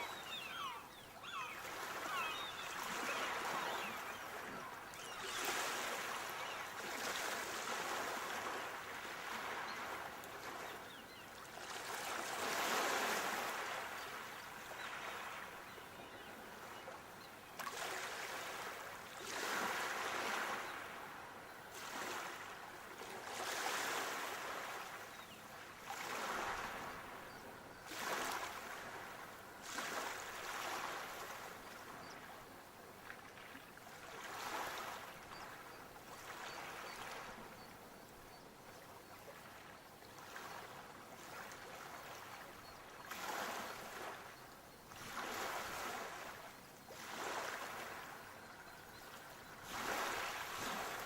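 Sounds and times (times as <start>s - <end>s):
sea waves breaking on shore: 0.0s - 17.0s, 17.6s - 37.9s, 38.9s - 44.3s, 44.9s - 51.0s.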